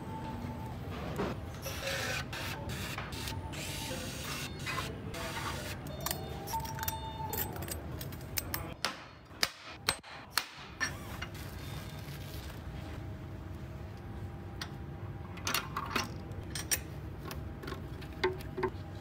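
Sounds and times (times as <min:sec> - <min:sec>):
assembly shop hum: 0:00.0 - 0:19.0.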